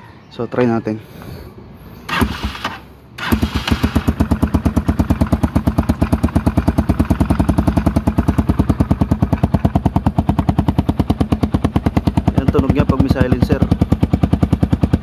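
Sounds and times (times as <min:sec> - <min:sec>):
motorcycle engine starting and idling: 0:02.0 - 0:15.0.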